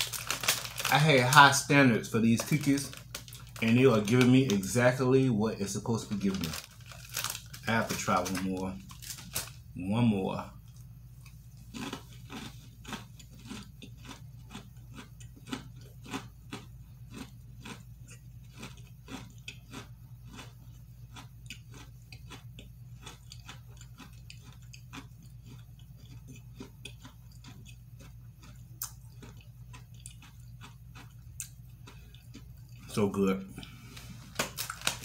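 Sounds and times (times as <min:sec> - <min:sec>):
low steady hum: 0:00.0 - 0:35.0
person chewing a cookie: 0:06.1 - 0:09.6, 0:10.3 - 0:35.0.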